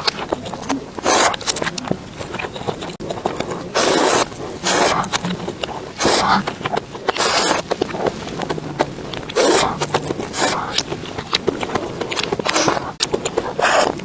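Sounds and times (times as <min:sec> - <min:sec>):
mouth clicks: 0:00.0 - 0:14.0
person chewing and biting food: 0:00.0 - 0:14.0.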